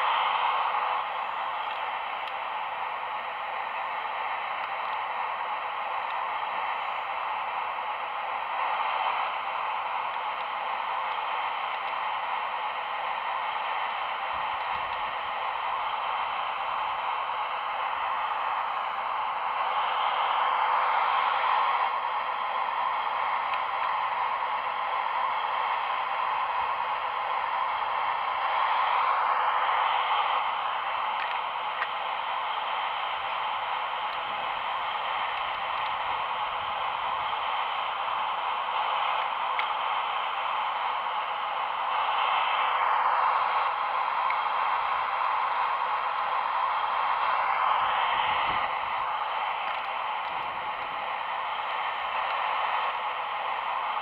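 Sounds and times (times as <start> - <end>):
model machinery whirring hiss: 0.0 - 54.0.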